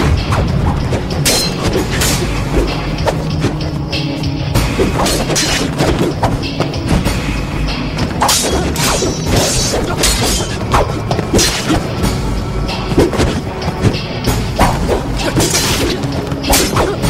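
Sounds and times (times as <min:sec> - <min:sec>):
fight hits and swishes: 0:00.0 - 0:17.0
film score music: 0:00.0 - 0:17.0.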